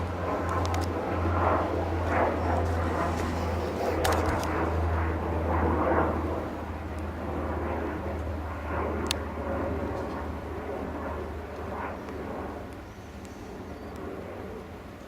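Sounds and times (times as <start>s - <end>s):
distant airplane drone: 0.0s - 15.0s.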